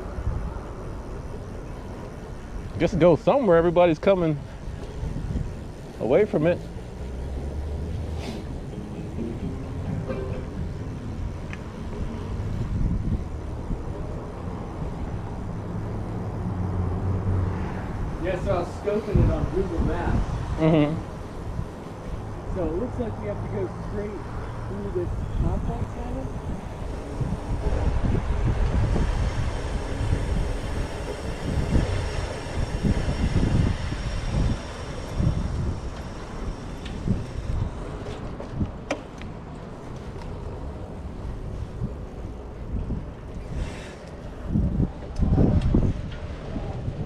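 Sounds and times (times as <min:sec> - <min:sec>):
bicycle road noise: 0:00.0 - 0:47.0
wind rumbling on microphone: 0:00.0 - 0:47.0.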